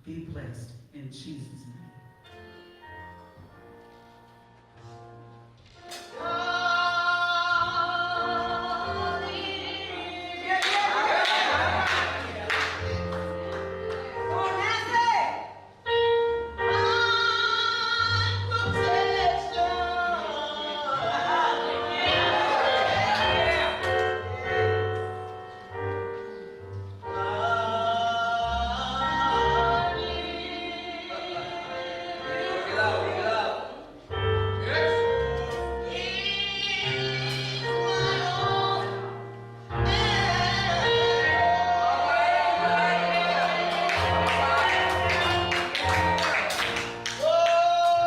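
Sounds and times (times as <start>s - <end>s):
gospel singing: 5.8s - 48.0s.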